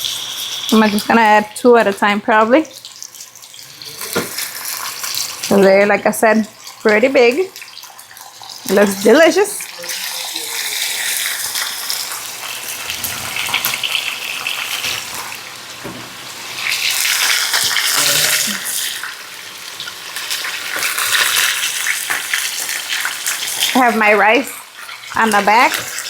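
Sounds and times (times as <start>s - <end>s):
steaks sizzling in hot oil: 0.0s - 26.0s.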